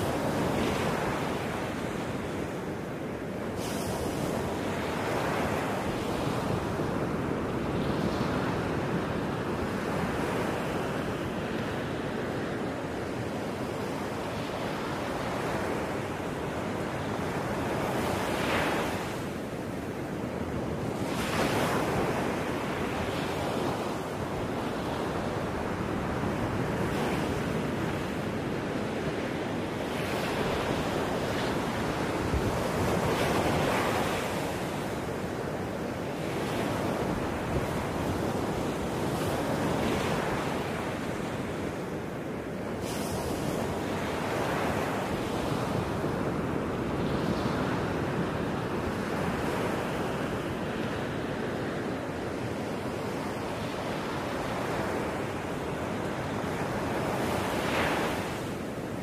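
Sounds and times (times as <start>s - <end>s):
ocean surf washing in and out: 0.0s - 59.0s.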